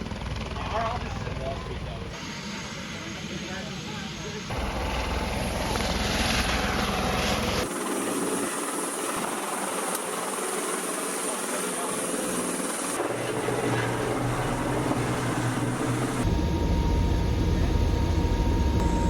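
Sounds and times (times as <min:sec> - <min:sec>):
helicopter rotor and engine drone: 0:00.0 - 0:19.0.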